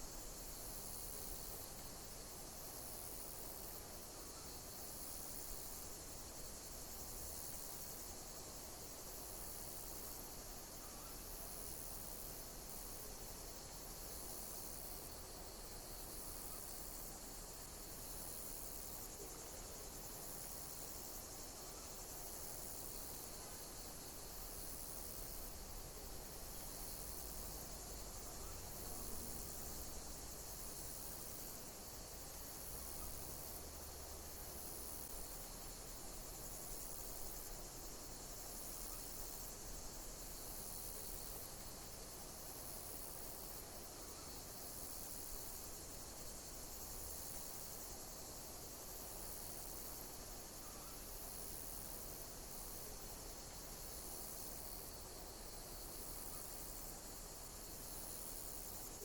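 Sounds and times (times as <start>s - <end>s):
insects chirping: 0.0s - 59.0s
steady hiss: 0.0s - 59.0s.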